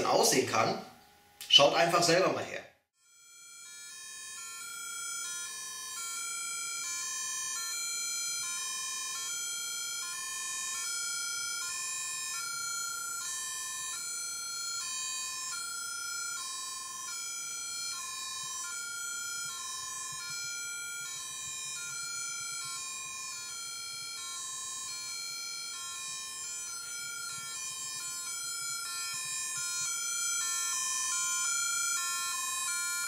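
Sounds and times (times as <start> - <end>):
electronic two-tone siren: 3.0 - 33.0.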